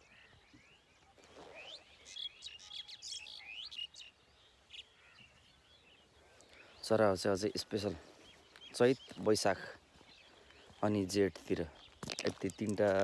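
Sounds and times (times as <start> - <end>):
faint outdoor background noise: 0.0 - 13.0
small birds chirping: 0.0 - 13.0.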